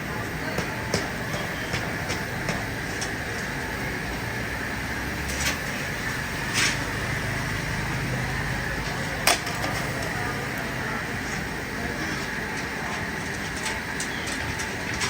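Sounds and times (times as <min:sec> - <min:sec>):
busy street food background: 0:00.0 - 0:15.0.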